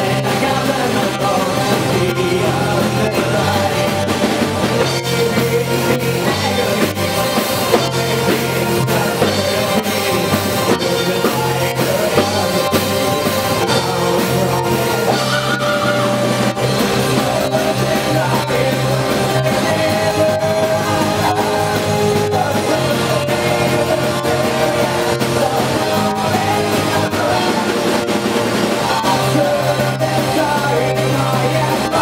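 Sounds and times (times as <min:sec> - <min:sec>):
person singing: 0:00.0 - 0:32.0
rock band playing live: 0:00.0 - 0:32.0.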